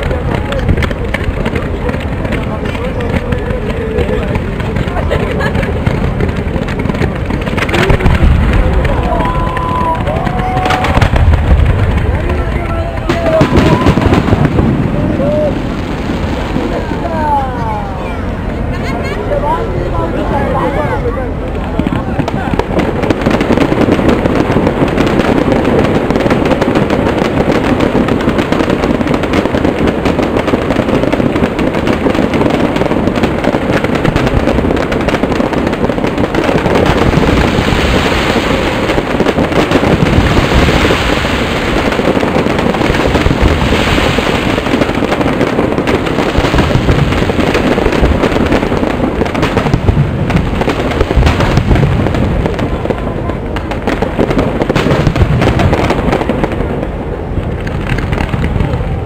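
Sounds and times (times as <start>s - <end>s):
fireworks crackling and banging: 0.0s - 59.0s
hissing crackle of fireworks: 0.0s - 59.0s.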